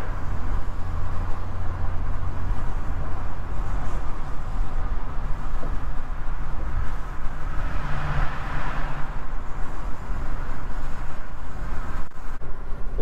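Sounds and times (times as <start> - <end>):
vehicle road noise and engine hum: 0.0 - 13.0.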